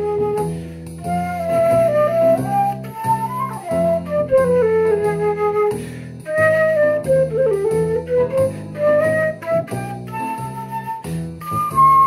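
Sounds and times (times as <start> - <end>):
flute playing slow melody: 0.0 - 12.0
low accompaniment: 0.0 - 12.0.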